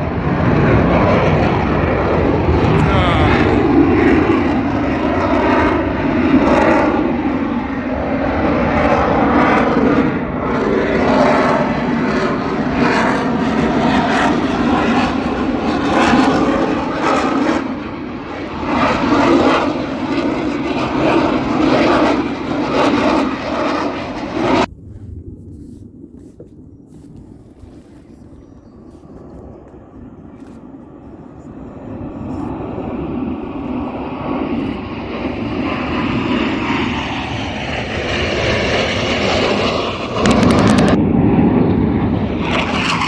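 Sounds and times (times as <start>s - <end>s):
aircraft engine roar flying past: 0.0s - 26.4s, 27.4s - 43.0s.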